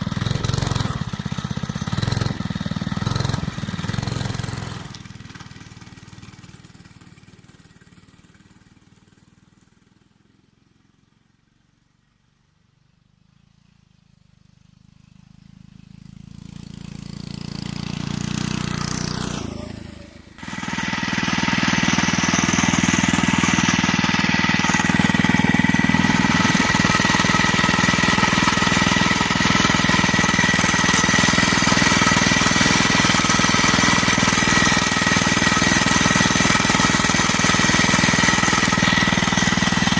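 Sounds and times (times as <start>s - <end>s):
minibike engine running: 0.0s - 12.6s, 13.2s - 39.9s.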